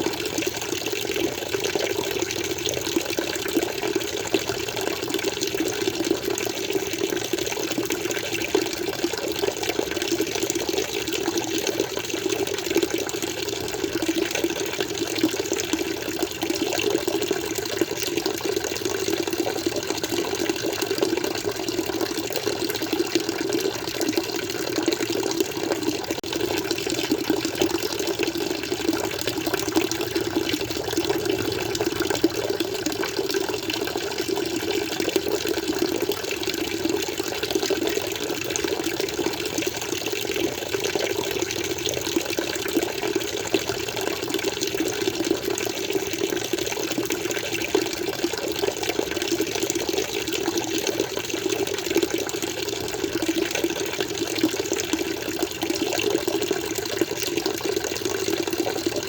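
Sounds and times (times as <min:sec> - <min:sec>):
water flowing and splashing: 0:08.4 - 0:59.0.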